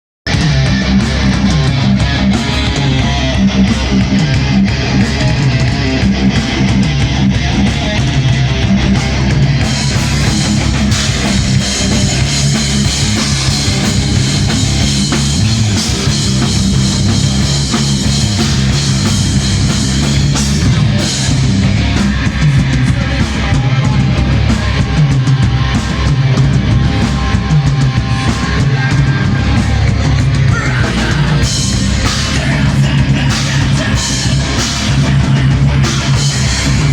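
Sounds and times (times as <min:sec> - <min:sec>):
distorted electric guitars: 0:00.2 - 0:36.9
drum kit with cymbals: 0:00.3 - 0:36.9.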